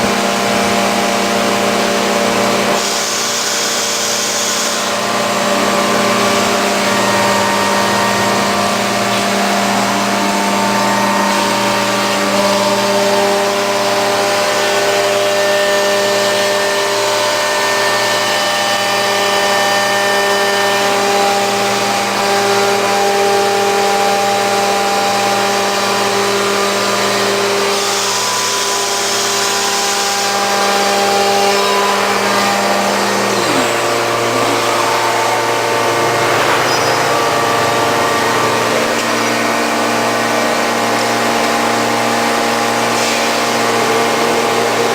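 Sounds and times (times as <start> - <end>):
machine drone: 0.0 - 44.9.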